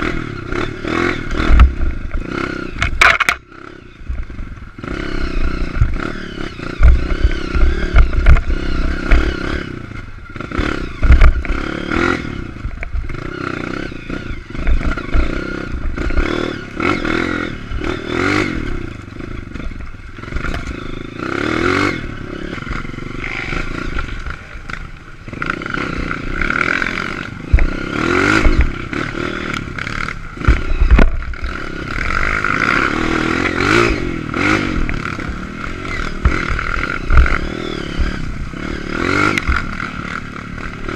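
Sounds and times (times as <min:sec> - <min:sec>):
bike knocking and rattling: 0:00.0 - 0:40.9
dirt bike engine revving: 0:00.0 - 0:40.9.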